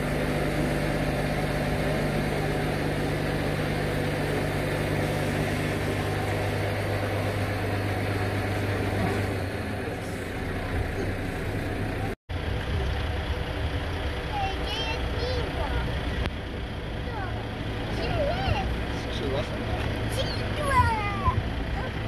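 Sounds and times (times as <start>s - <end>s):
heavy vehicle engine idling: 0.0s - 22.0s.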